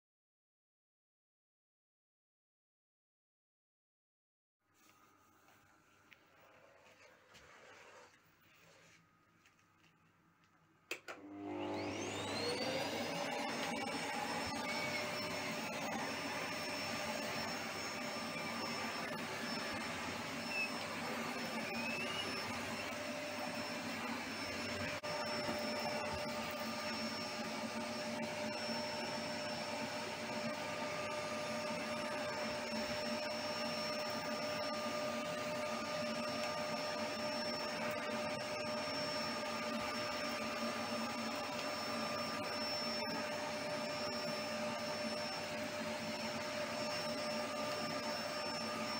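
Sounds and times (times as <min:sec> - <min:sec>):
vacuum cleaner running: 0:04.8 - 0:09.9, 0:10.9 - 0:48.9.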